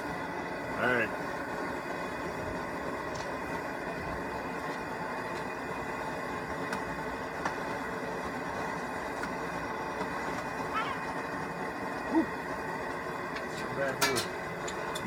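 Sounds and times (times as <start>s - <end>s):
kettle of liquid boiling: 0.0s - 15.0s.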